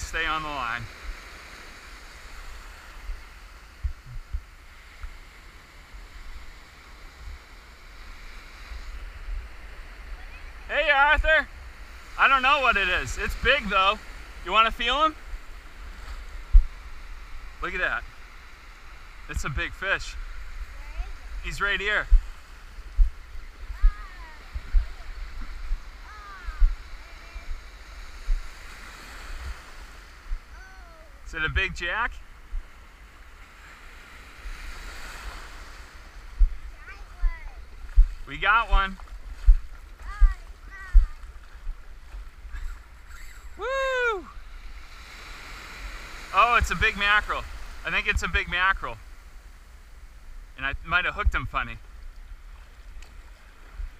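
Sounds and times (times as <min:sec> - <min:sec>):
small waves and surf: 0:00.0 - 0:53.9
wind rumble on microphone: 0:00.8 - 0:10.7, 0:15.1 - 0:48.4, 0:49.0 - 0:53.9.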